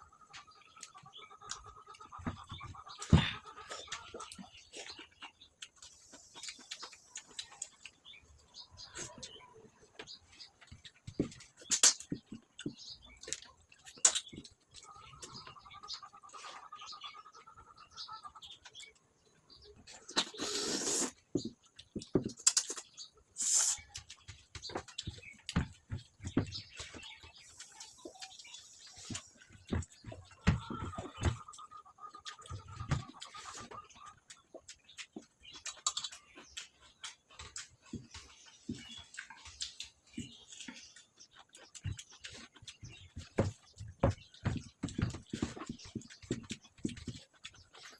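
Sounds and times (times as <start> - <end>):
mouth chewing and smacking: 0.4 - 17.0, 17.8 - 47.9.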